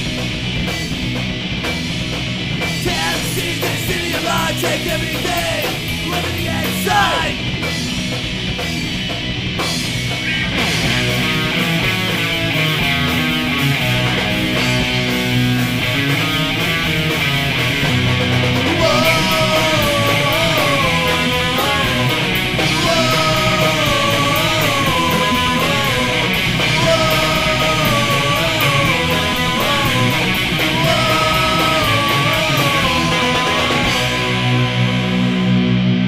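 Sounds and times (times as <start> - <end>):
drums and cymbals: 0.0 - 35.9
distorted electric guitars: 0.0 - 36.0
melodic guitar lead with pitch bends: 5.0 - 36.0.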